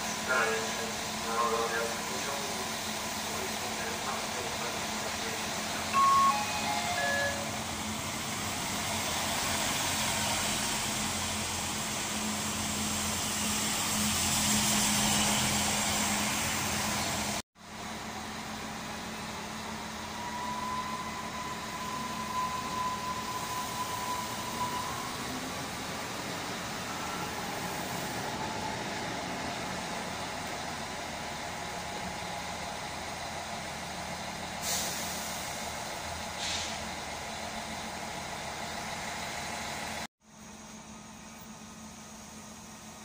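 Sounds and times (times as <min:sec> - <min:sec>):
electric train hum: 0:00.0 - 0:34.7
hum of trains at station: 0:00.0 - 0:43.0.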